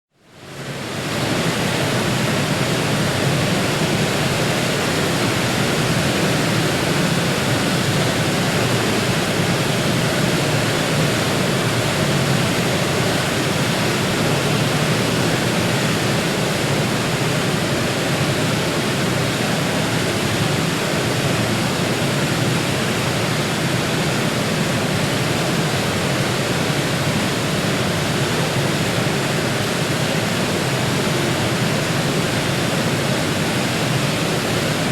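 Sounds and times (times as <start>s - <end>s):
waterfall rushing: 0.4s - 34.9s.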